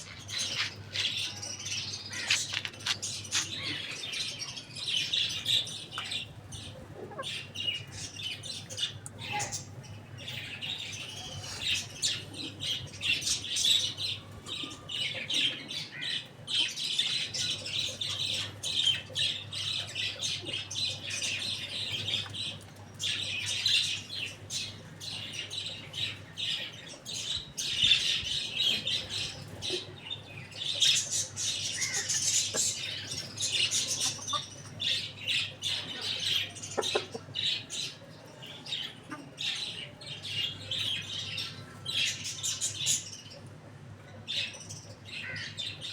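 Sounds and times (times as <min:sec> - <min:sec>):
small birds chirping and squawking: 0:00.0 - 0:45.9.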